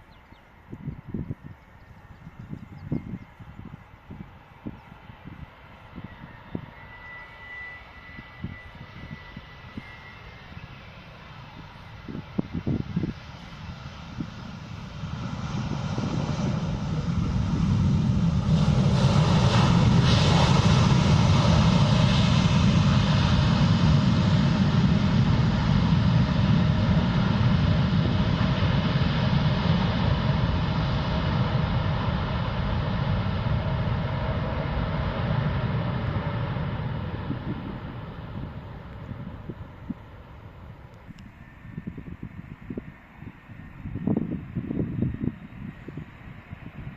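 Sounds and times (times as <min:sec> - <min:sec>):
jet airliner passing overhead: 0:00.0 - 0:46.9.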